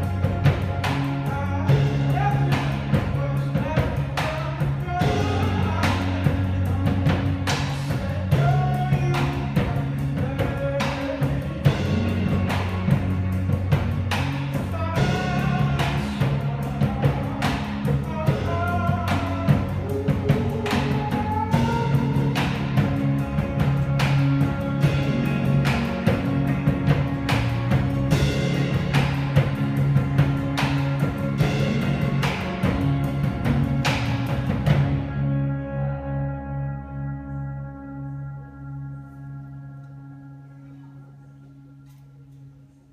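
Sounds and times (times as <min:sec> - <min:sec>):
drum beat: 0:00.0 - 0:35.0
electric guitar: 0:00.0 - 0:42.4
bass guitar: 0:00.0 - 0:42.9.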